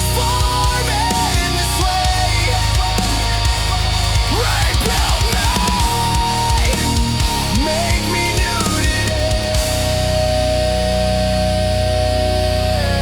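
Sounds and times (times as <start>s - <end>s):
fast bass drum hits: 0.0s - 10.4s
instrumental heavy metal: 0.0s - 13.0s.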